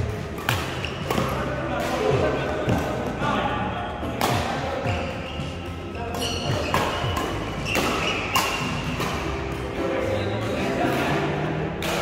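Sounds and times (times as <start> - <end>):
rackets hitting shuttlecock: 0.0 - 3.3, 4.0 - 12.0.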